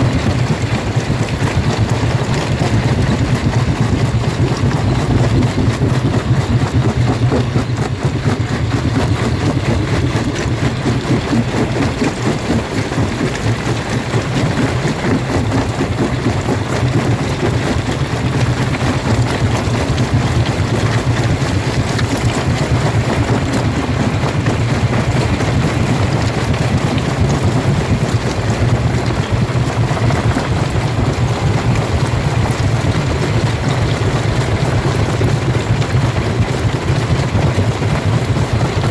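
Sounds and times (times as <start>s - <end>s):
rock crusher crushing stone: 0.0s - 38.9s.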